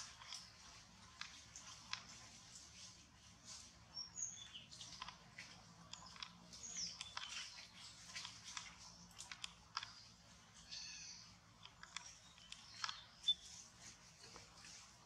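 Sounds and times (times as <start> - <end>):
faint clicks and ticks: 0.0 - 15.0.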